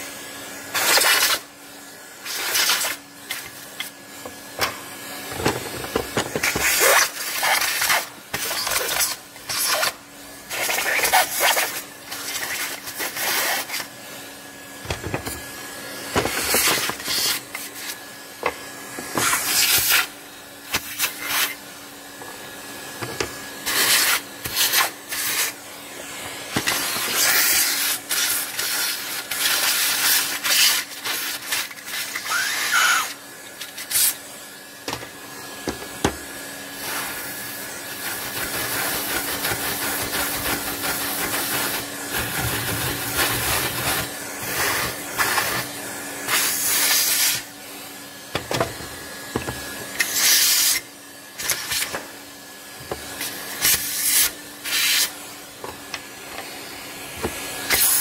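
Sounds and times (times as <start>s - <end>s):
vacuum cleaner motor hum: 0.0s - 58.0s
vacuum nozzle sucking debris: 0.5s - 52.2s, 52.8s - 58.0s.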